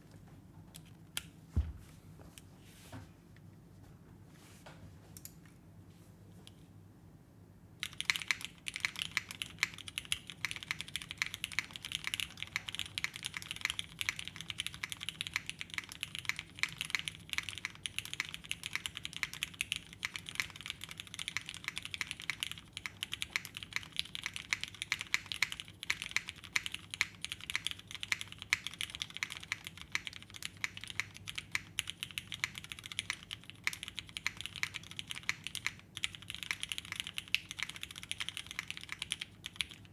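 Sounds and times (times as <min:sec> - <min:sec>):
fast typing on mechanical keyboard: 0:07.8 - 0:39.9.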